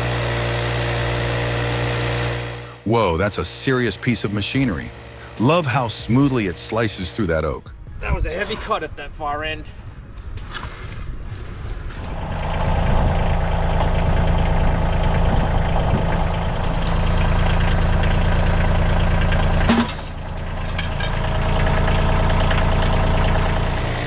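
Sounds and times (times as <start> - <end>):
machine engine running: 0.0 - 7.4, 12.0 - 24.0.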